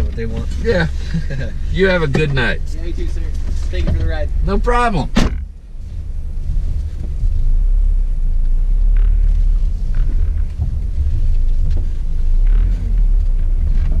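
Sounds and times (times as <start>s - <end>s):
car cabin engine rumble: 0.0s - 14.0s.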